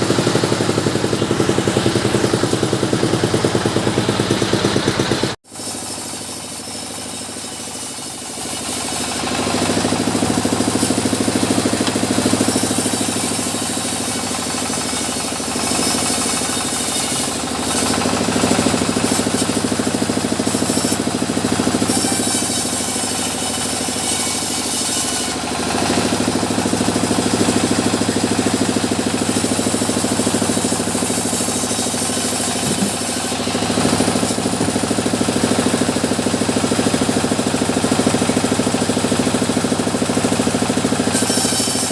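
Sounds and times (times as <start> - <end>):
engine drone: 0.0 - 22.2, 25.3 - 41.9
saw cutting through wood: 0.0 - 41.9.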